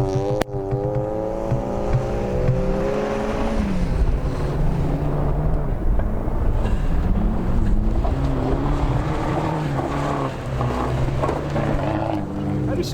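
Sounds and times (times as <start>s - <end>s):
rally car engine running hard: 0.0s - 12.9s.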